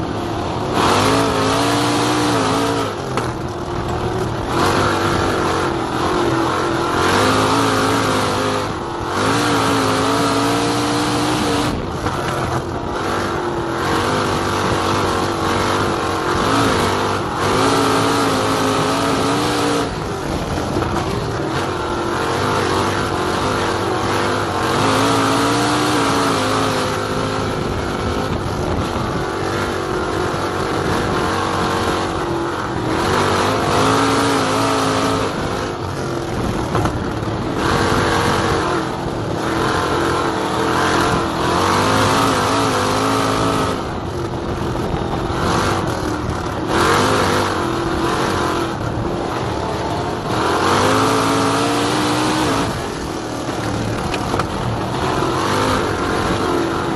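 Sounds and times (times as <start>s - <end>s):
race car engine: 0.0s - 56.9s
wind noise: 0.0s - 56.9s.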